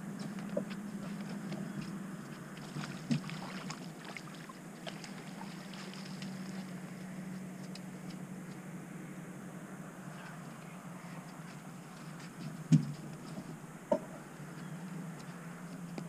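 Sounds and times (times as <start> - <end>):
trolling motor humming: 0.0 - 16.0.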